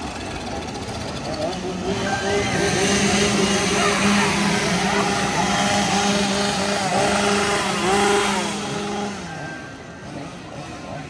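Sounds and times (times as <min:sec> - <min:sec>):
chainsaw engine running: 0:00.0 - 0:11.0
voices: 0:00.0 - 0:11.0.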